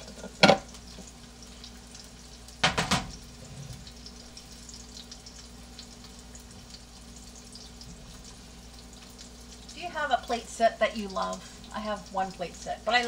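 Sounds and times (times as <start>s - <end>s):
burger patties sizzling in pan: 0.0s - 13.0s.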